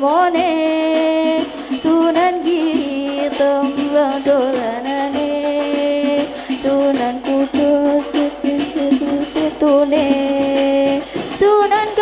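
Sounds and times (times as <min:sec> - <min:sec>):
frame drums beating: 0:00.3 - 0:12.0.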